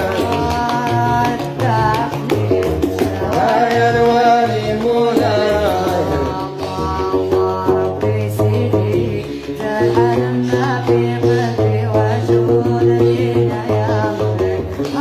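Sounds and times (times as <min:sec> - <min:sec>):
girl singing: 0:00.0 - 0:15.0
plucked bass lute: 0:00.0 - 0:15.0.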